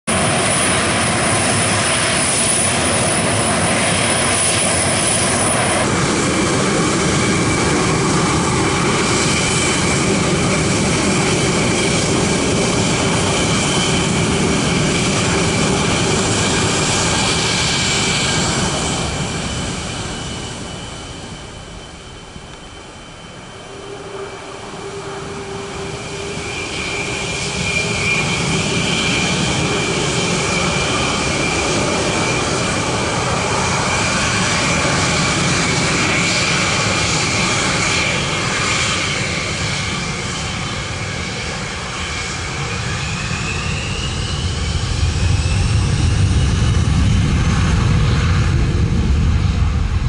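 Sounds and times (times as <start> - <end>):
jet engines roaring with fan whine: 0.0 - 50.0.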